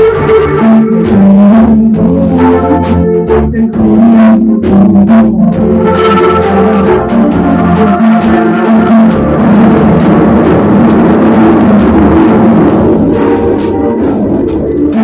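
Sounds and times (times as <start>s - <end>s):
music of held overlapping notes: 0.0s - 15.0s.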